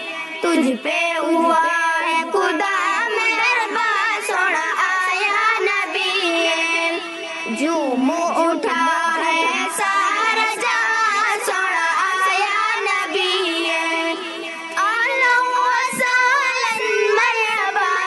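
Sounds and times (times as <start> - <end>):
girl singing devotional song: 0.0 - 18.0.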